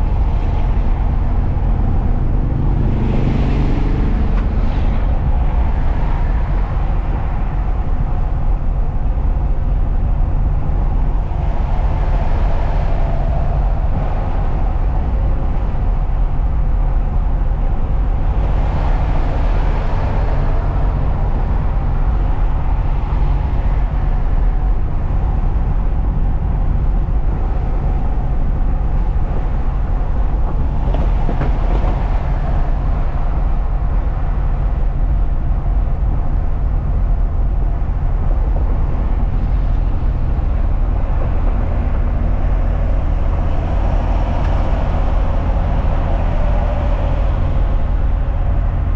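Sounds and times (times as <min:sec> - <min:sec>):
road noise hiss: 0:00.0 - 0:48.9
truck engine rumbling: 0:00.0 - 0:48.9.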